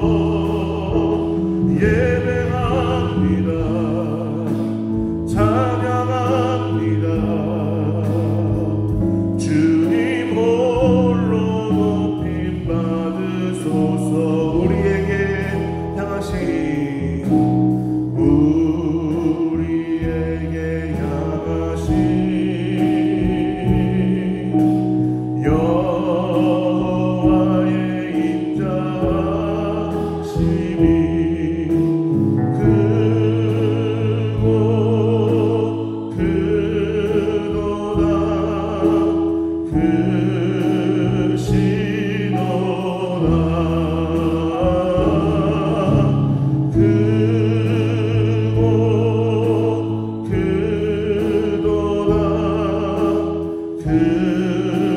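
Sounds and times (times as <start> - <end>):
drums: 0.0 - 54.9
group singing with vibrato: 0.0 - 54.9
keyboard: 0.0 - 54.9.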